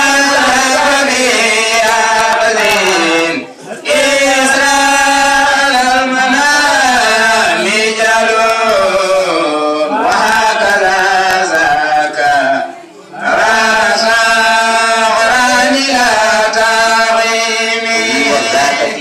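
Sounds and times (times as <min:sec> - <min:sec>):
man chanting into a microphone: 0:00.0 - 0:12.8, 0:14.0 - 0:19.0.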